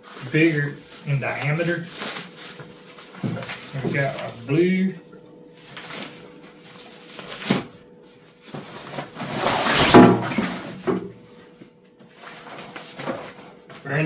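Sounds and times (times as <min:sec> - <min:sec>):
fabric bag rustling and scraping: 0:00.0 - 0:04.4, 0:05.6 - 0:13.8.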